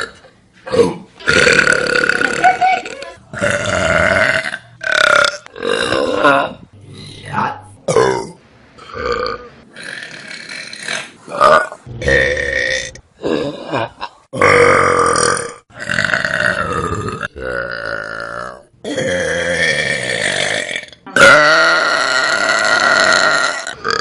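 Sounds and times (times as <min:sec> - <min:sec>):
loud human burps: 0:00.0 - 0:07.2, 0:07.9 - 0:24.0.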